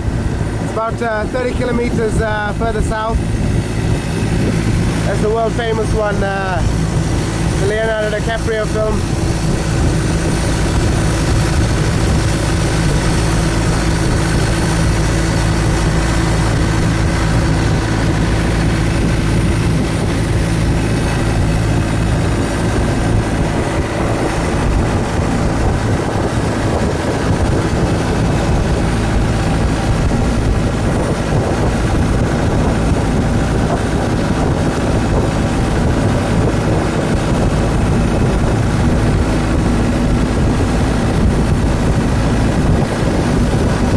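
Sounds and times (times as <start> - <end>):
boat engine droning: 0.0 - 43.9.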